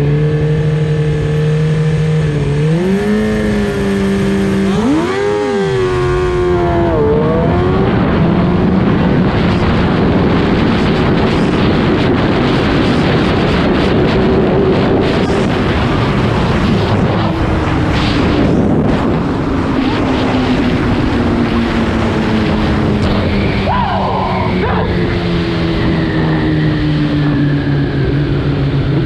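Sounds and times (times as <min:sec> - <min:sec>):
motorcycle engine decelerating: 0:00.0 - 0:29.0
wind rush on microphone: 0:00.0 - 0:29.0.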